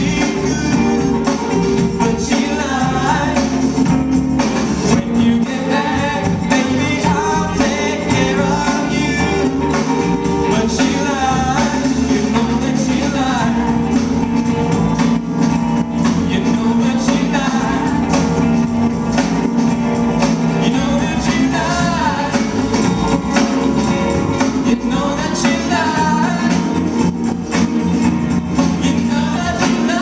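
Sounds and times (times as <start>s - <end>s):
male lead vocal: 0.0s - 4.1s, 4.8s - 14.4s, 16.0s - 18.6s, 20.4s - 27.6s, 28.5s - 30.0s
drums: 0.0s - 30.0s
electric guitars: 0.0s - 30.0s.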